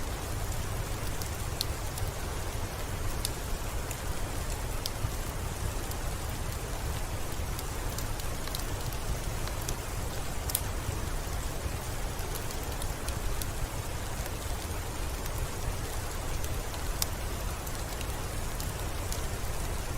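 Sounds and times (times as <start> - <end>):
rain on a window: 0.0 - 19.9.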